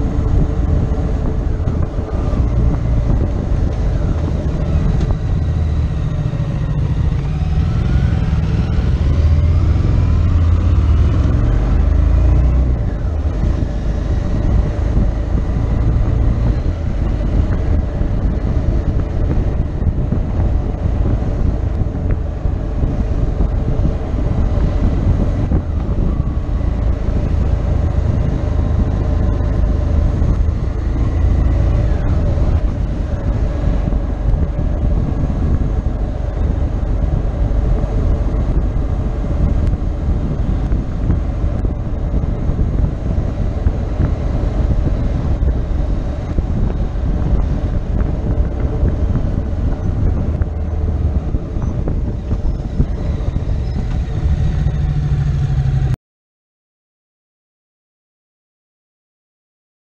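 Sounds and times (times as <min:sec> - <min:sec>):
motorcycle engine running: 0:00.0 - 0:56.0
wind rushing on microphone: 0:00.0 - 0:56.0.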